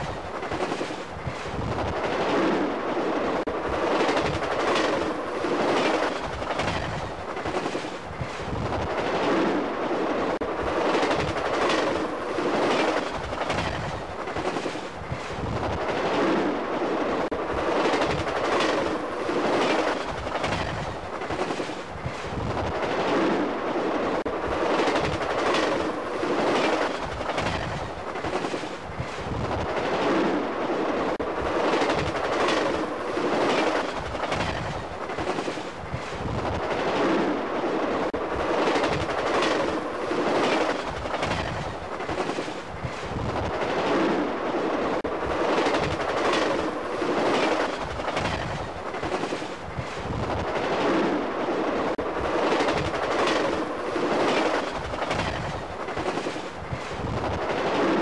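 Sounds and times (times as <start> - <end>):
clickety-clack of train wheels: 0.0 - 58.0
train wheels rushing on rail: 0.0 - 58.0.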